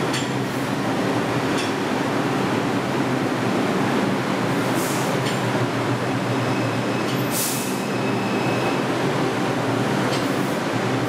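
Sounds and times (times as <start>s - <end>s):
subway train rumble: 0.0s - 11.0s.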